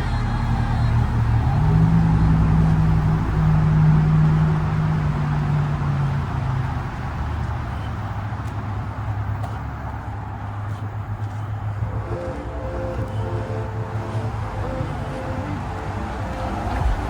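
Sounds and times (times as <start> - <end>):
motor vehicle hum: 0.0 - 17.0
traffic rumble: 0.0 - 17.0.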